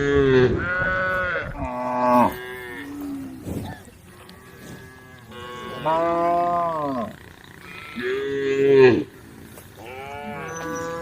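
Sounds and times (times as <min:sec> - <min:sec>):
cows mooing: 0:00.0 - 0:11.0.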